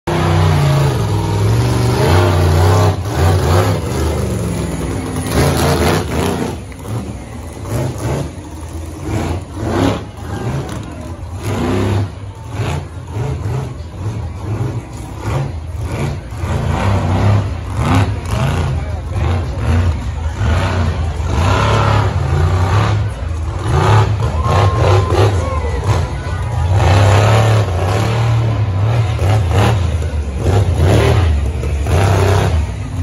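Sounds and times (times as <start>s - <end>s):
truck engine revving hard: 0.0s - 33.0s.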